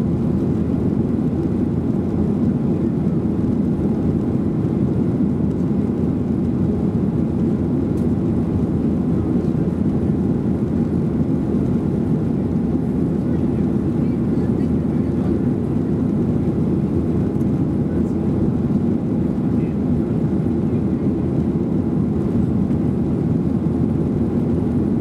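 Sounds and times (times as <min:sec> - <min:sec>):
air rushing along fuselage: 0:00.0 - 0:25.0
jet engines rumbling: 0:00.0 - 0:25.0.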